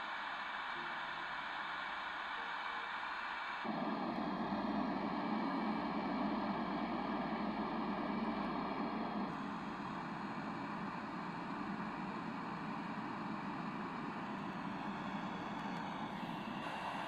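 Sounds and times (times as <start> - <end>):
white noise machine hiss: 0.0 - 17.0.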